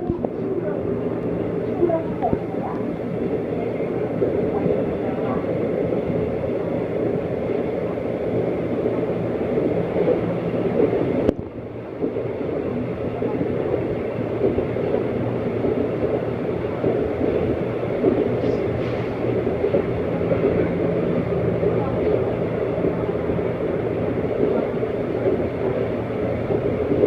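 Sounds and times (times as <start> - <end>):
train rumbling from aboard: 0.0 - 27.0.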